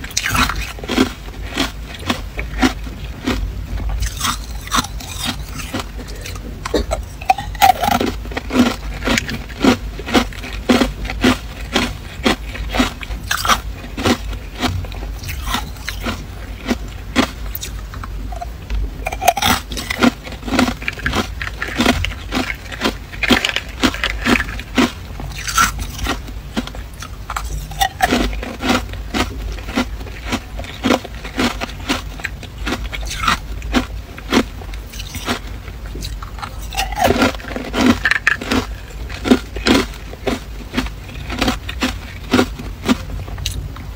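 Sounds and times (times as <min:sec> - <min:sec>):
ice being chewed: 0:00.0 - 0:43.6.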